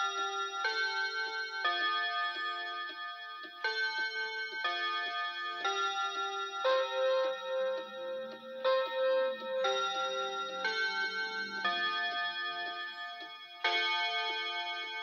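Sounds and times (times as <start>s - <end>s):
faint clock ticking: 0.0s - 15.0s
mantel clock chime tune: 0.0s - 15.0s.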